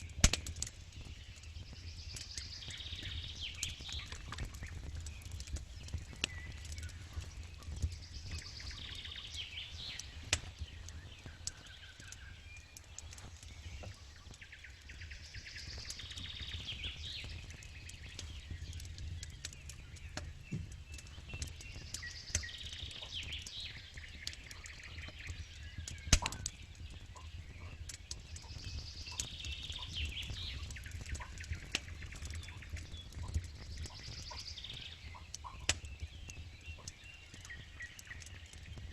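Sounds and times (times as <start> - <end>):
bird singing: 0.0 - 38.9
campfire crackling and popping: 0.0 - 38.9.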